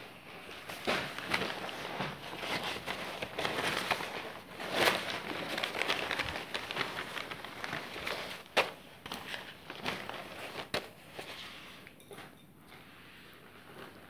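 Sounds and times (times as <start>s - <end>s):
cloth rustling: 0.2s - 11.8s.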